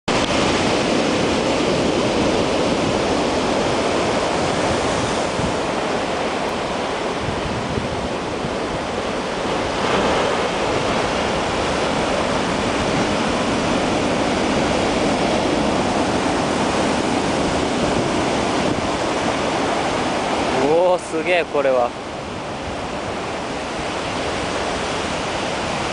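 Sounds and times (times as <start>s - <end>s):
rough surf breaking: 0.1s - 25.9s
wind: 0.1s - 25.9s.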